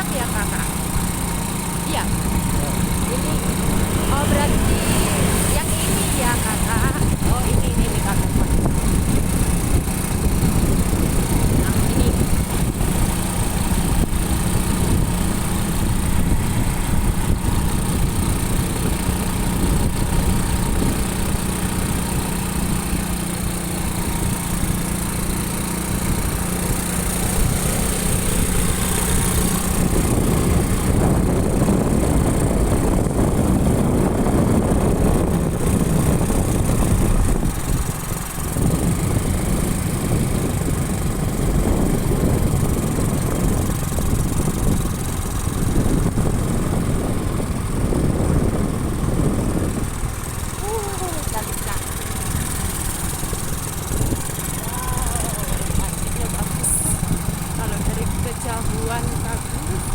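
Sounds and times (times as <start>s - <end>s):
motorcycle engine running: 0.0s - 59.9s
road and wind rumble: 0.0s - 59.9s.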